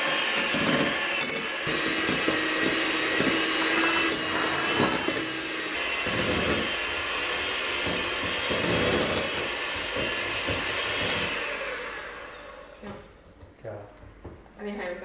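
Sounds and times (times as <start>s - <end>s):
electric hand mixer whipping: 0.0s - 12.8s.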